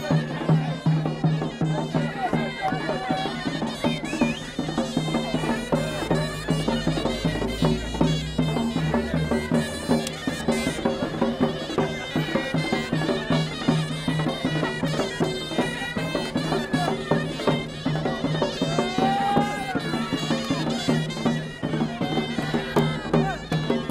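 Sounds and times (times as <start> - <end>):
buzzing reed pipes melody: 0.0 - 23.9.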